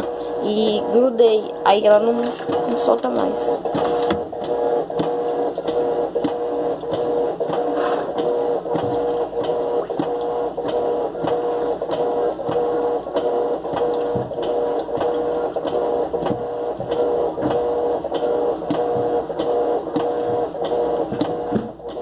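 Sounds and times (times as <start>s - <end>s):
agitator rhythmic beat: 0.0s - 22.0s
washing machine motor hum: 0.0s - 22.0s.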